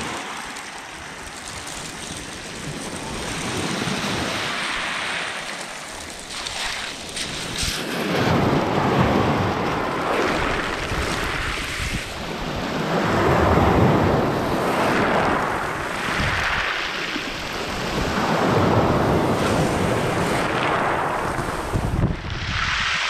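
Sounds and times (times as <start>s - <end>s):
surf breaking on pebble beach: 0.0s - 23.0s.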